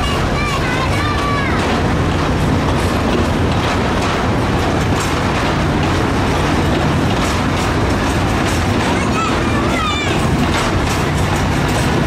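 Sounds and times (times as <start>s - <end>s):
diesel locomotive drone: 0.0s - 12.0s
train wheels clicking over rail joints: 0.0s - 12.0s.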